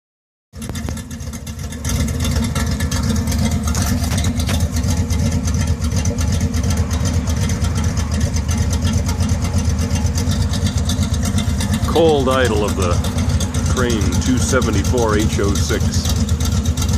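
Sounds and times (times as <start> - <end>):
car engine lumpy rough idle: 0.5 - 16.9.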